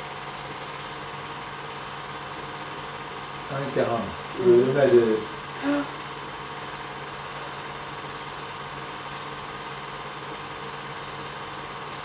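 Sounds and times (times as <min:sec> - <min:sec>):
film projector whirring: 0:00.0 - 0:12.0.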